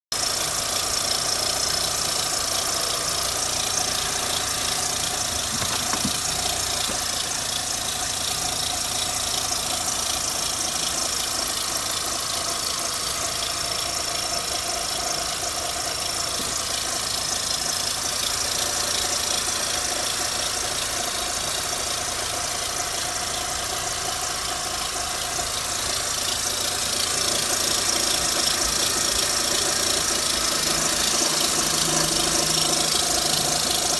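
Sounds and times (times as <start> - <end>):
car engine running: 0.1 - 33.9
strange engine noise: 0.2 - 33.9.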